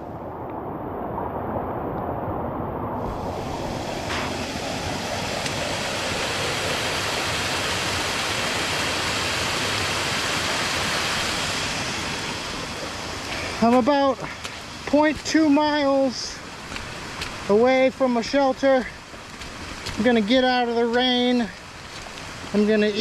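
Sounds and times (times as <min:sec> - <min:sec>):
waterfall rushing: 0:03.0 - 0:23.0.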